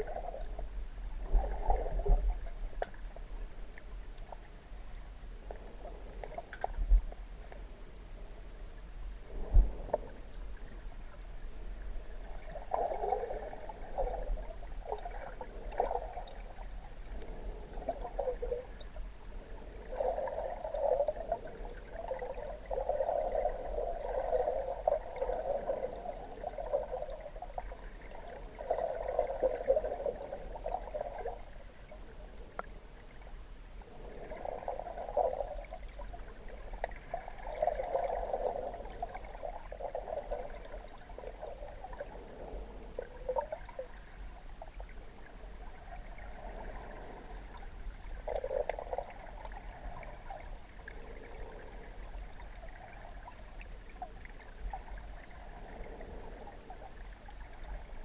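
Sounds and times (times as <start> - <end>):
underwater gurgling and bubbling: 0.0 - 7.8, 9.2 - 58.0.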